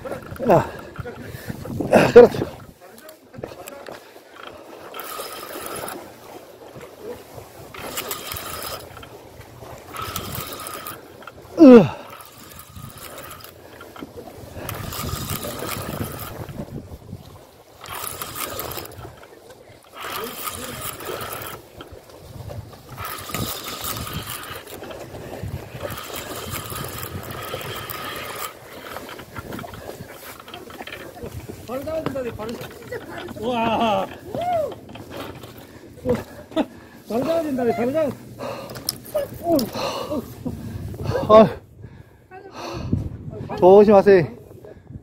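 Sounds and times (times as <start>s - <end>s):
low wind rumble: 0.0s - 3.6s, 6.6s - 45.0s
fishing reel whirring: 0.0s - 36.4s, 37.1s - 41.4s.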